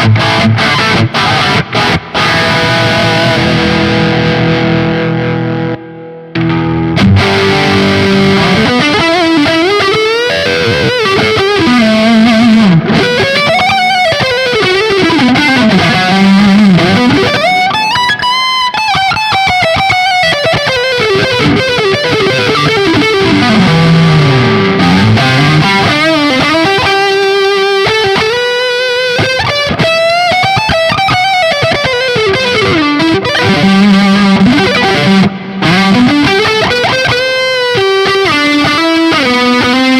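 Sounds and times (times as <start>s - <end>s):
distorted electric guitar lead: 0.0s - 39.9s.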